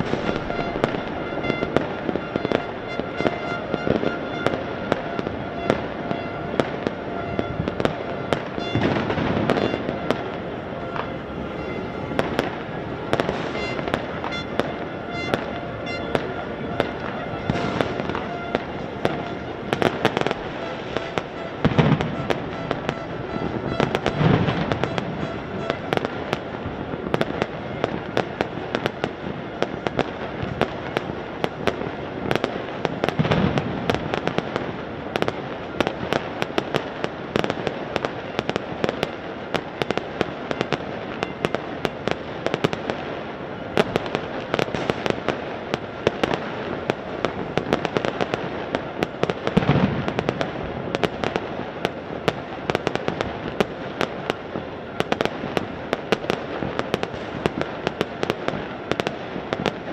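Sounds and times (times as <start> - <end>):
fireworks crackling: 0.0 - 59.9
heavy firework booms: 0.0 - 59.9.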